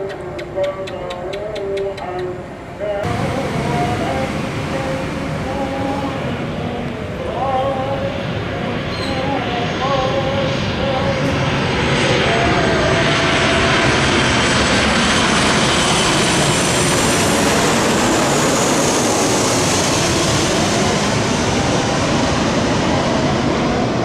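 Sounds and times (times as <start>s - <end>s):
airliner engines roaring: 0.0s - 24.0s
faint high whine: 1.6s - 24.0s.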